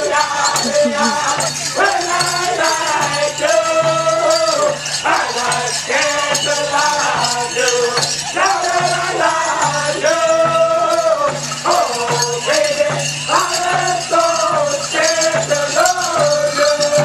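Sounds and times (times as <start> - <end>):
drum group singing: 0.0 - 17.0
steady drum beat: 0.0 - 17.0.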